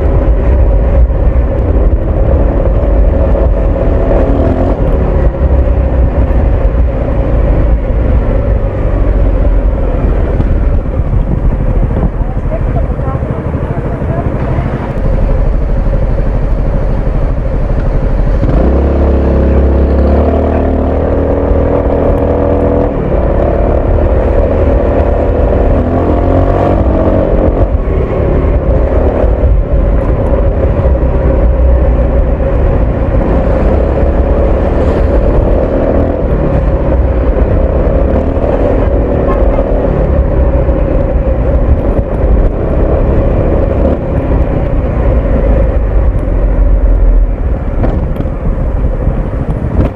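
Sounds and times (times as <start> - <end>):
scooter engine and exhaust: 0.0 - 49.9
wind and road noise: 0.0 - 49.9.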